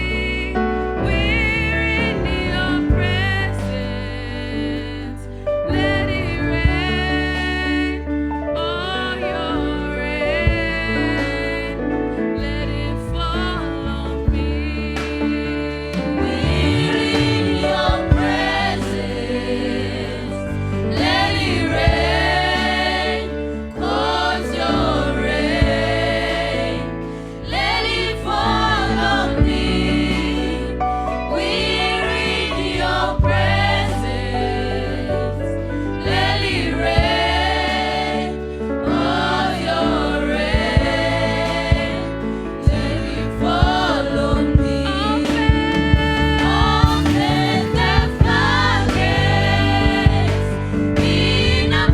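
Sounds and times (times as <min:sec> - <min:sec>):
choir singing: 0:00.0 - 0:51.9
sustained instrumental backing: 0:00.0 - 0:51.9.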